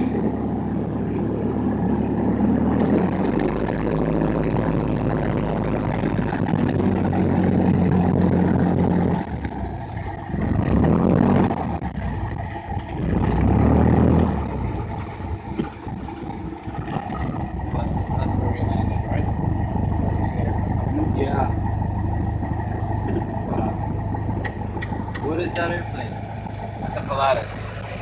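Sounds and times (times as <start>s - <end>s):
light aircraft engine and propeller: 0.0s - 28.0s.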